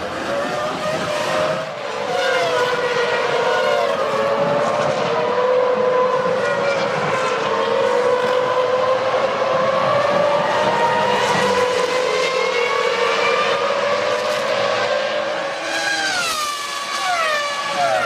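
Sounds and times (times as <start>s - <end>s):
racing engines at high revs: 0.0s - 18.0s.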